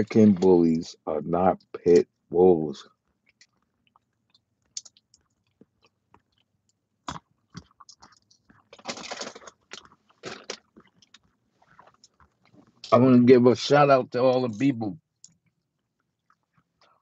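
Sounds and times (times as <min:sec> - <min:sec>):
faint clicks and ticks: 0:01.6 - 0:13.0, 0:14.2 - 0:17.0.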